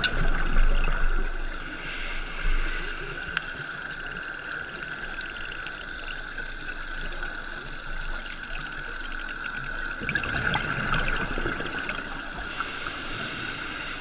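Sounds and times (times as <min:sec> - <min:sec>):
regulator bubbles rumbling: 0:00.0 - 0:13.4
steady underwater hiss: 0:00.0 - 0:14.0.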